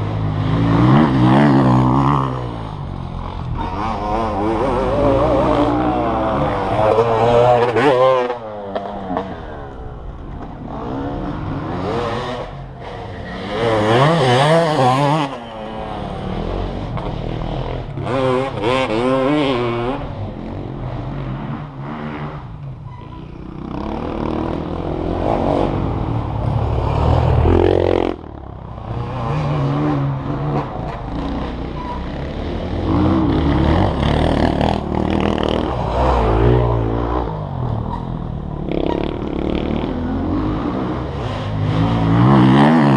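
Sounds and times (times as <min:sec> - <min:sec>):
motocross bikes revving: 0:00.0 - 0:42.9.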